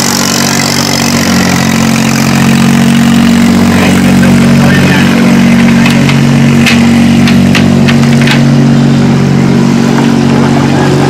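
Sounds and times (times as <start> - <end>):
small boat engine idling: 0.0 - 11.0.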